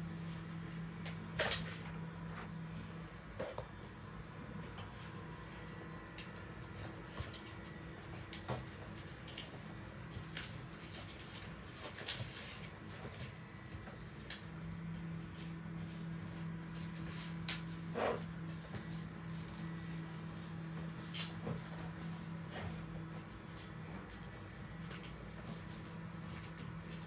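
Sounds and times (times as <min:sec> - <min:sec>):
steady low hum: 0:00.0 - 0:27.0
paper rustling: 0:05.0 - 0:27.0.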